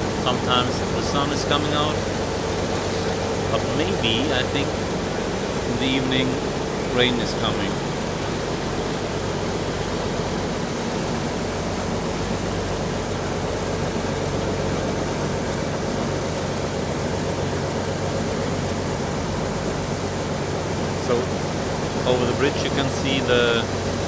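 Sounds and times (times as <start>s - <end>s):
diesel engine droning: 0.0s - 24.0s
rushing wind and water: 0.0s - 24.0s.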